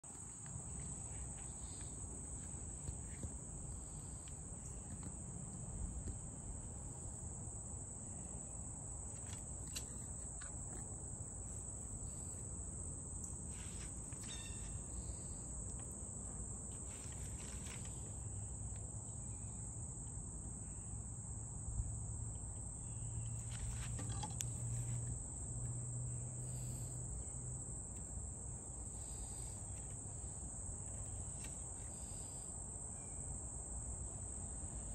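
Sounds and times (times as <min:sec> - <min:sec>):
insects trilling: 0:00.2 - 0:34.9.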